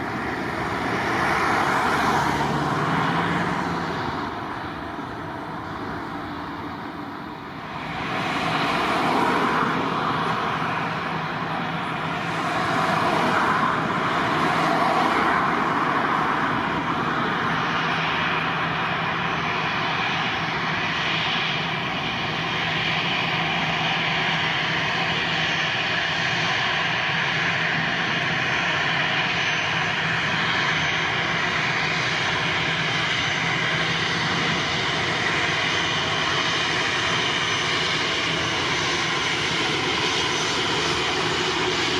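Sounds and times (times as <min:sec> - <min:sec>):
engine whine: 0:00.0 - 0:41.9
jet engines running: 0:00.0 - 0:41.9.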